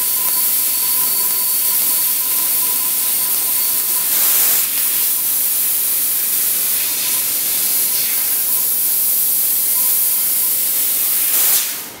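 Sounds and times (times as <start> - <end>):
high-pitched hiss of gas jet: 0.0 - 11.9.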